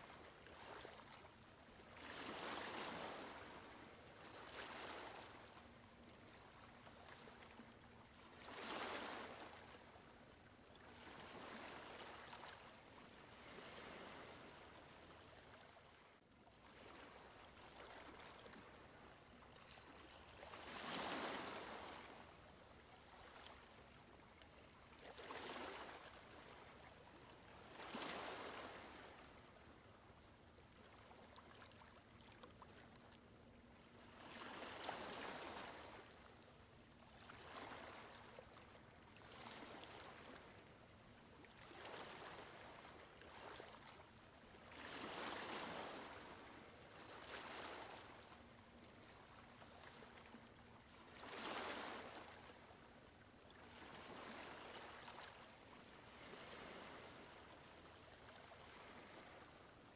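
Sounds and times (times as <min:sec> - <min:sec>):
gentle waves washing in: 0:00.0 - 0:59.9.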